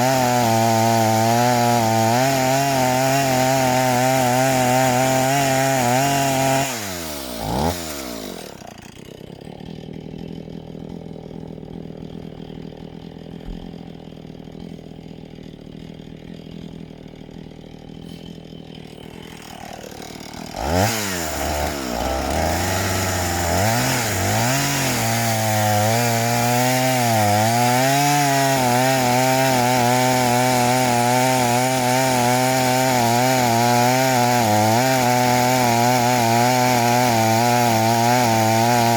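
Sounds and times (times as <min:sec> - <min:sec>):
chainsaw cutting log: 0:00.0 - 0:38.9
chainsaw revving and idling: 0:00.0 - 0:38.9.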